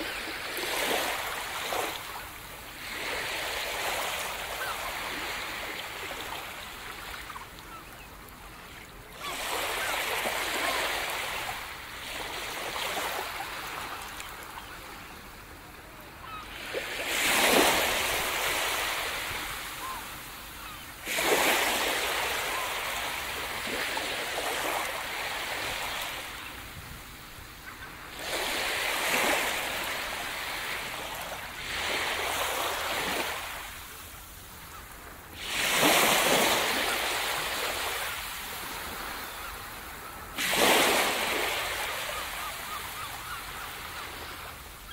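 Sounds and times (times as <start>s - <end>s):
small waves washing up beach: 0.0s - 44.9s.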